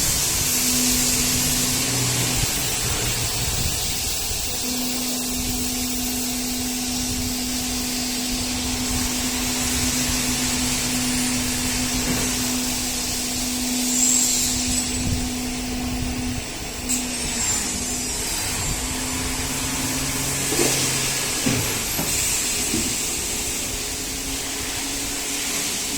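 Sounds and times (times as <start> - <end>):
low machine tone: 0.0 - 25.9
milling machine motor hum: 0.0 - 25.9.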